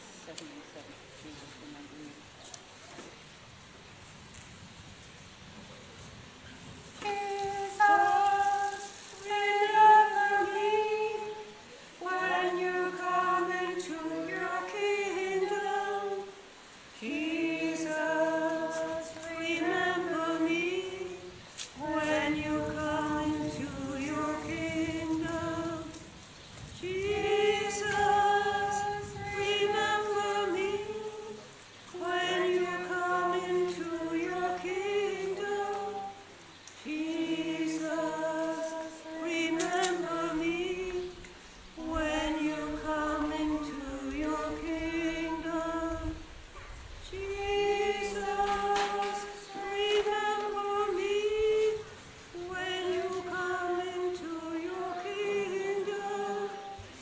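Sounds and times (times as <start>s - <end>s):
voices singing a hymn unaccompanied: 5.5s - 57.0s.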